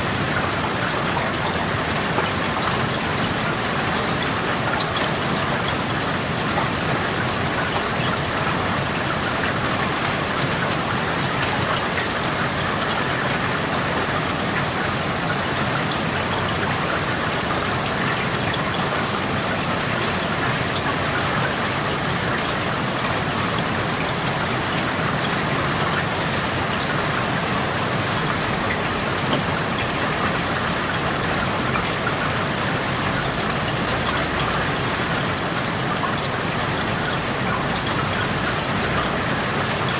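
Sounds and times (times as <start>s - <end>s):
raindrops ticking: 0.0s - 39.9s
steady rain patter: 0.0s - 39.9s.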